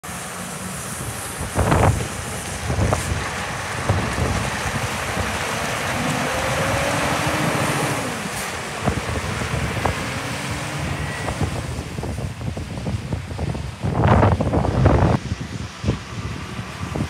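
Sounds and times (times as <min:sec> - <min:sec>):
tyres hissing on wet pavement: 0:00.0 - 0:17.0
diesel truck engine passing: 0:00.1 - 0:17.0
wind buffeting microphone: 0:00.9 - 0:17.0.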